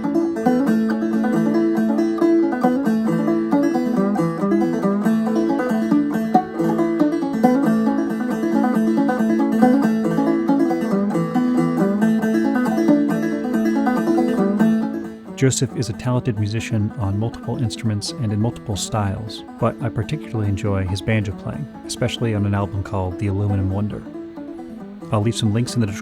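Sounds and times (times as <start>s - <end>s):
banjo playing a tune: 0.0s - 26.0s.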